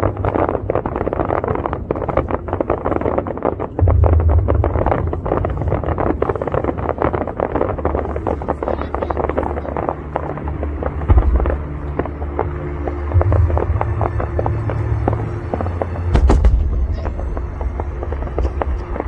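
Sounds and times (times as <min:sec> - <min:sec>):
wind buffeting microphone: 0:00.0 - 0:19.0
deep low hum: 0:03.7 - 0:19.0.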